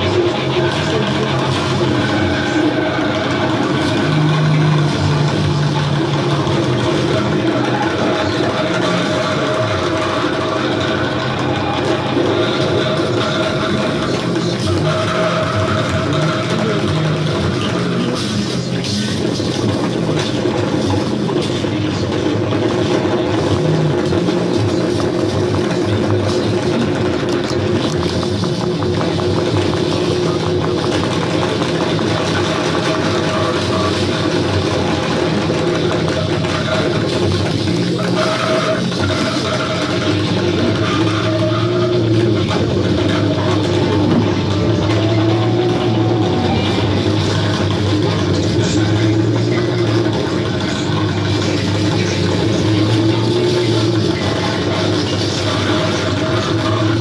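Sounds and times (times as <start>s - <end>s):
distorted electronic noise drone: 0.0s - 57.0s.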